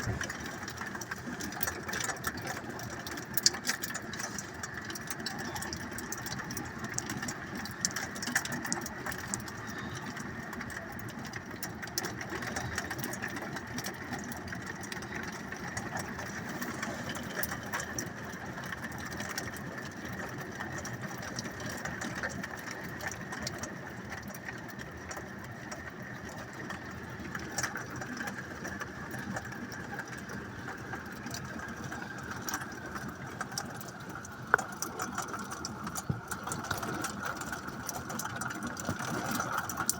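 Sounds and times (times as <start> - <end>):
hailstones ticking: 0.0 - 39.9
rain: 0.0 - 39.9
steady engine-like hum: 0.0 - 39.9.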